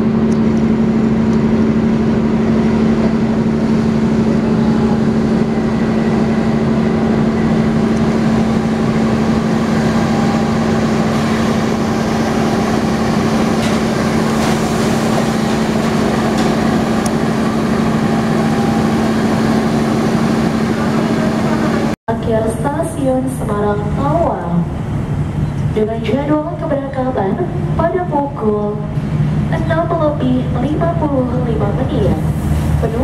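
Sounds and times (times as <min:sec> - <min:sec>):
diesel locomotive engine drone: 0:00.0 - 0:33.0.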